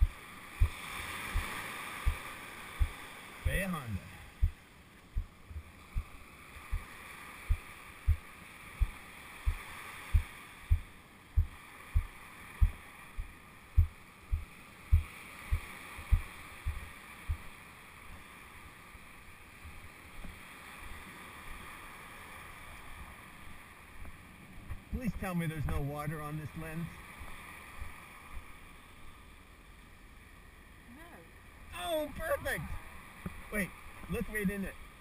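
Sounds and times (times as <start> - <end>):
surf hissing: 0.0 - 29.1
wind: 0.0 - 35.0.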